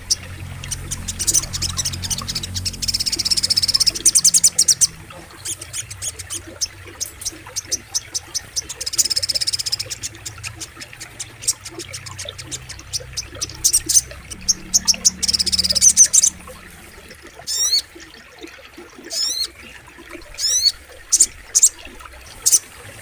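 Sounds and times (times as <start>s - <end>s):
bird calling with chips and trills: 0.0s - 16.6s, 17.4s - 18.0s, 19.1s - 22.7s
faint flowing water: 0.0s - 23.0s.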